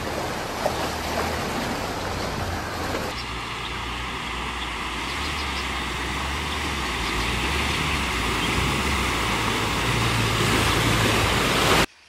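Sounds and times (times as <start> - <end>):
water washing: 0.0 - 11.9
vehicle engine humming: 0.0 - 12.0.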